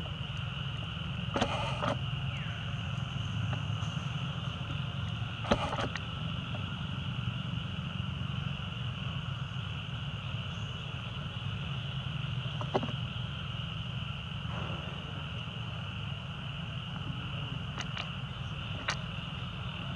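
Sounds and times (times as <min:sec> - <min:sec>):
high-pitched insect drone: 0:00.0 - 0:19.9.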